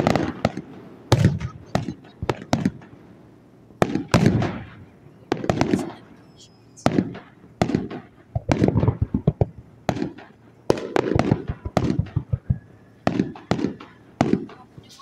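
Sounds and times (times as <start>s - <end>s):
crackling pops: 0.0s - 3.1s, 3.8s - 6.1s, 6.8s - 15.0s
fireworks bursting with sharp bangs: 0.0s - 15.0s.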